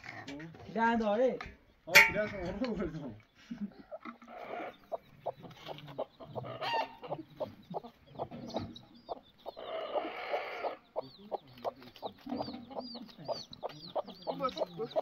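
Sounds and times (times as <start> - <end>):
hen clucking: 1.8 - 15.0.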